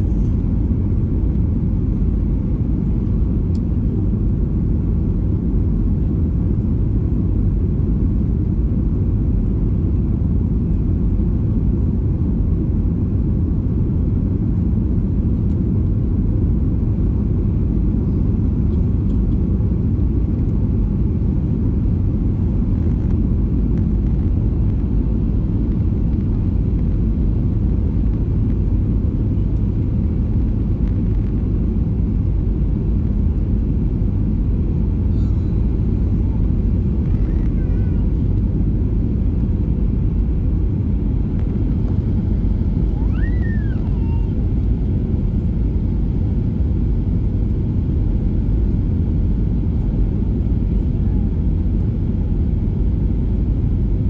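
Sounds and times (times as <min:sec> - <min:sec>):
engine and airflow noise: 0:00.0 - 0:54.0
jet airliner cabin rumble: 0:00.0 - 0:54.0.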